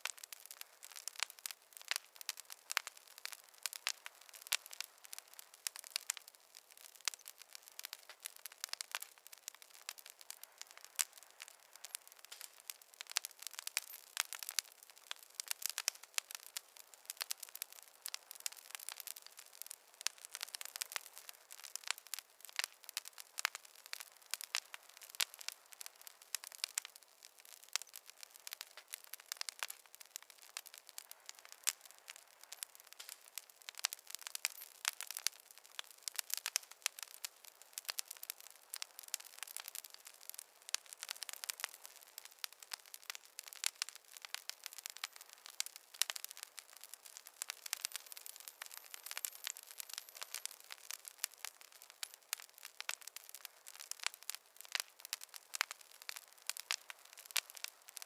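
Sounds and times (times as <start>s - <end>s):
faint hiss: 0.0s - 58.0s
wood fire crackling: 0.0s - 58.0s.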